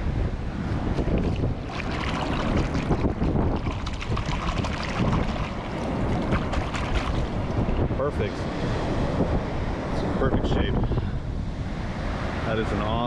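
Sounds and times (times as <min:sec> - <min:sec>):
steady low rumble: 0:00.0 - 0:13.0
surf washing on beach: 0:00.0 - 0:13.0
wind buffeting microphone: 0:00.0 - 0:13.0.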